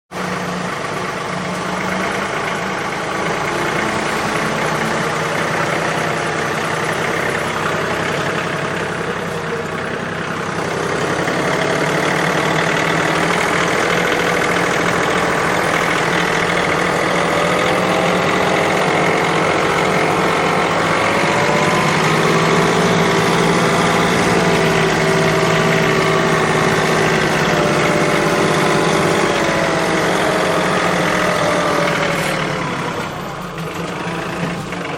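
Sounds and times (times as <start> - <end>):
engine running steadily: 0.1 - 34.9.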